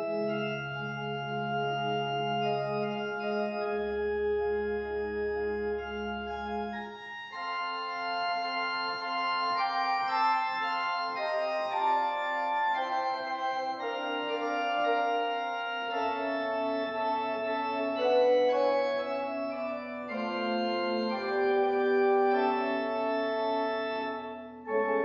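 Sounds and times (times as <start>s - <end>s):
organ chords: 0.0s - 25.0s.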